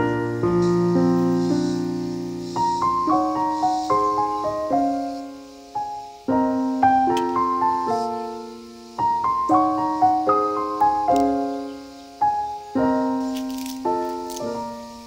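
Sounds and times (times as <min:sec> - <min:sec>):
slow solo piano melody: 0:00.0 - 0:15.0.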